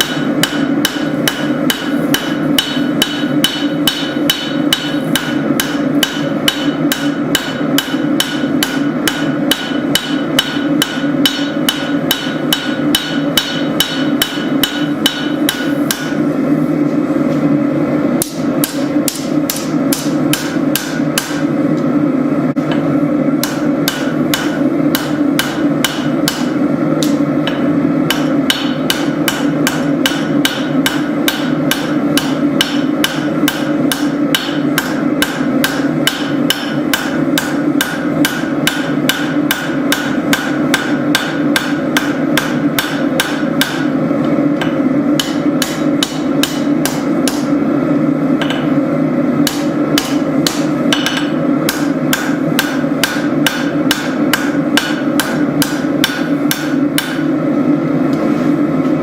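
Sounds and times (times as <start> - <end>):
hammer striking steel on anvil: 0.0 - 16.2, 18.2 - 21.5, 23.4 - 44.0, 44.6 - 47.6, 48.4 - 48.7, 49.4 - 57.3.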